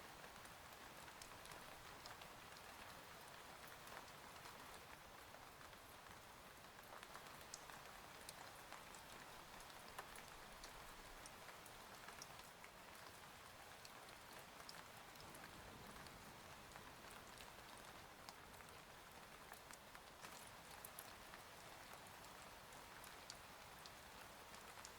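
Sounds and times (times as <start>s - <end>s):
faint steady rain: 0.0s - 24.9s
raindrops ticking on a surface: 0.0s - 24.9s.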